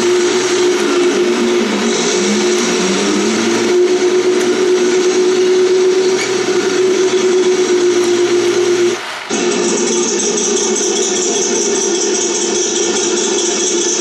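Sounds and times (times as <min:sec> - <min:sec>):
constant whine: 0:00.0 - 0:14.0
tank engine sound effect: 0:00.0 - 0:14.0.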